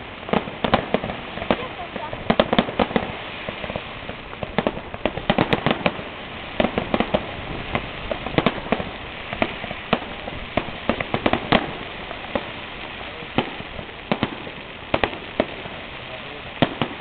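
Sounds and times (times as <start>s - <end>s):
fireworks crackling pops: 0.0s - 17.0s
steady hiss: 0.0s - 17.0s.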